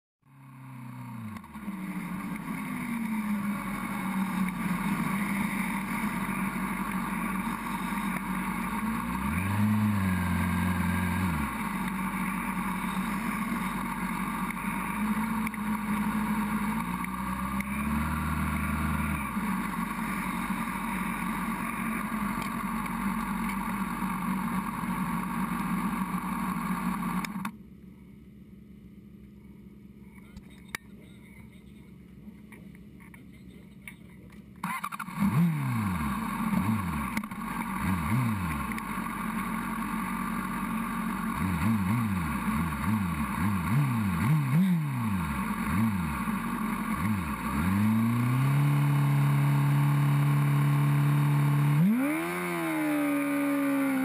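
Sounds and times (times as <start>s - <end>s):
motorcycle engine running at speed: 0.2s - 27.6s, 28.6s - 54.0s.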